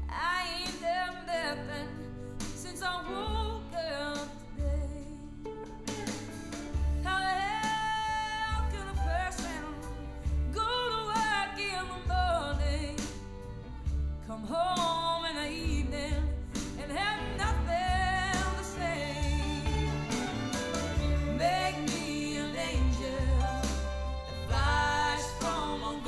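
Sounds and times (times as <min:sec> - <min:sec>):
woman singing a ballad: 0:00.0 - 0:20.2, 0:20.9 - 0:26.0
band accompaniment with bass: 0:02.4 - 0:26.0.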